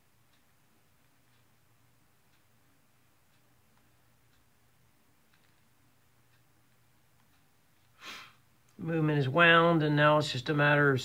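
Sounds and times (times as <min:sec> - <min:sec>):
faint clicks: 0:00.0 - 0:08.8
steady low hum: 0:00.0 - 0:11.0.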